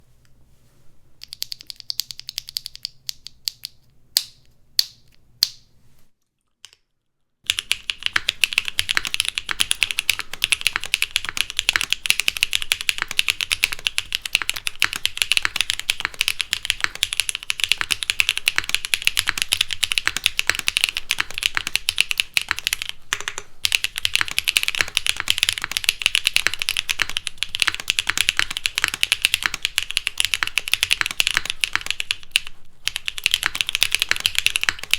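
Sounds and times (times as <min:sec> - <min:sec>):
mechanical keyboard typing: 0:01.2 - 0:03.8, 0:07.5 - 0:34.9.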